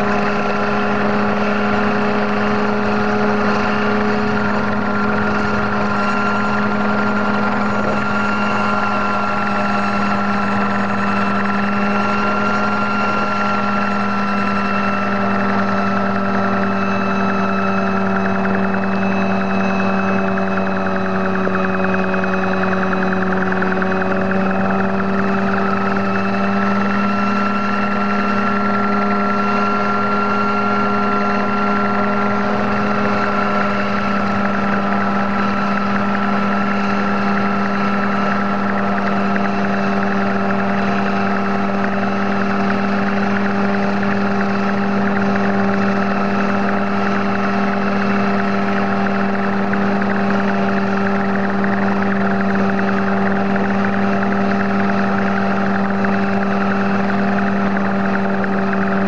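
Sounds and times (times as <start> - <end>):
helicopter engine droning: 0.0 - 59.0
high rotor whine: 0.0 - 59.0.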